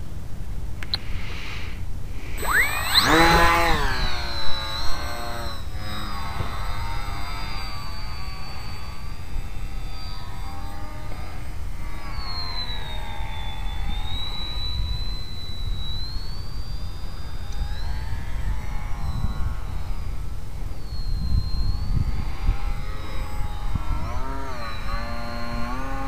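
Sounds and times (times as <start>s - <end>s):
model airplane motor whining: 2.3s - 26.0s
wind rumble on microphone: 3.2s - 26.0s.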